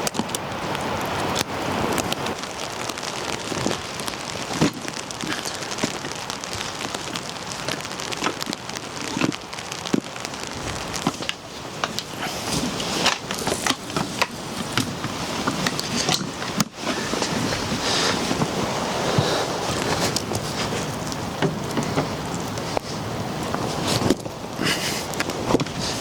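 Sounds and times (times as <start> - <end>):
raindrops ticking on surface: 0.0 - 26.0
steady rain: 0.0 - 26.0.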